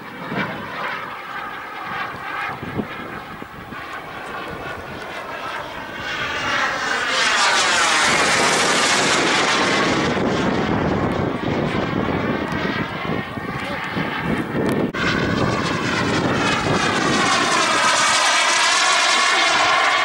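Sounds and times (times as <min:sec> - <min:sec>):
model jet engine whine: 0:00.0 - 0:20.0.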